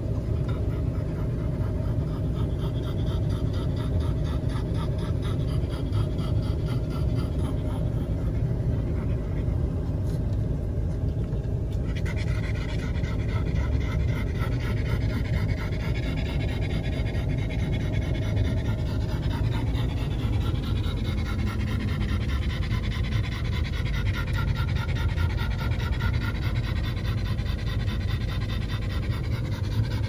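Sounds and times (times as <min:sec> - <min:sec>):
car road and engine rumble: 0:00.0 - 0:30.0
dog panting: 0:00.0 - 0:30.0.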